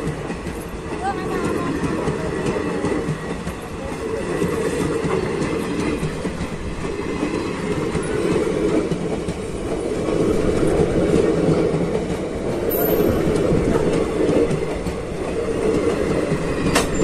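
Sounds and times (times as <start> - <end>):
continuous train rumble: 0.0 - 17.0
train wheels clattering on rails: 0.0 - 17.0.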